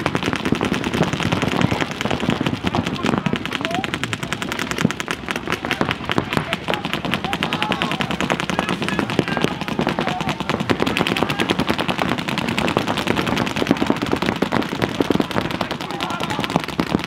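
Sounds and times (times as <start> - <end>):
paintball markers firing rapidly: 0.0 - 17.0.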